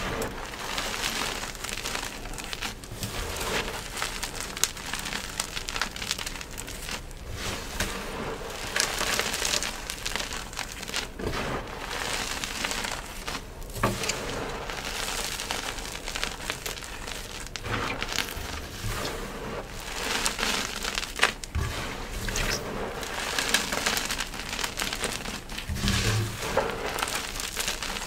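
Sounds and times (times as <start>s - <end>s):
chalk crunching in hands: 0.0s - 28.0s.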